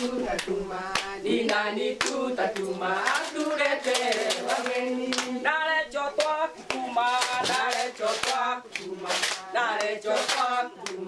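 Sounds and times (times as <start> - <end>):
rhythmic hand clapping: 0.0 - 11.0
women singing together: 0.0 - 11.0.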